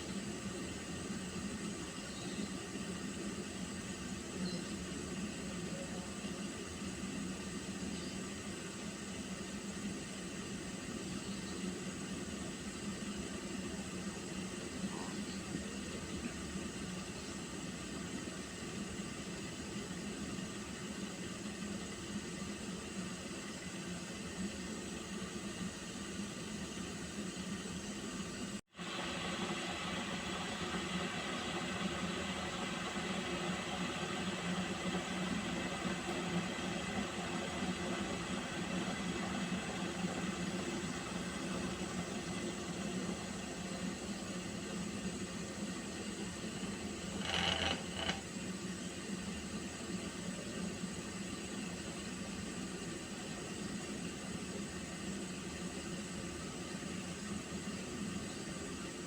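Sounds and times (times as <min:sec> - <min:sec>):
water heating in a pot: 0:00.0 - 0:59.0.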